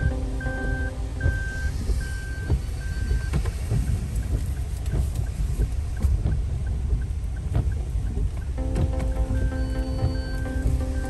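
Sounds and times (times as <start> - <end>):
engine and road rumble: 0.0 - 11.0
parking sensor beeps: 0.0 - 11.0
rain tapping on car: 0.0 - 11.0.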